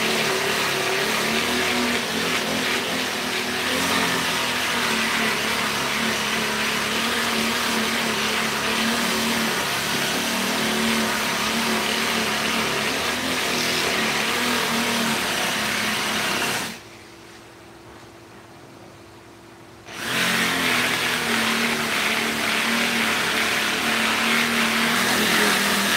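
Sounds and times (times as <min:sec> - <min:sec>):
electric power tool motor: 0:00.0 - 0:16.8, 0:19.9 - 0:25.9.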